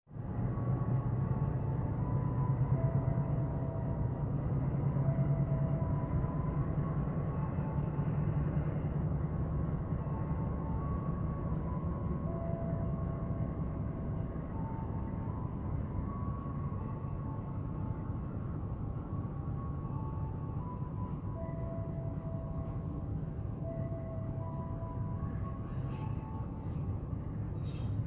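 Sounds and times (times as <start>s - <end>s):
locomotive engine drone: 0.1s - 28.0s.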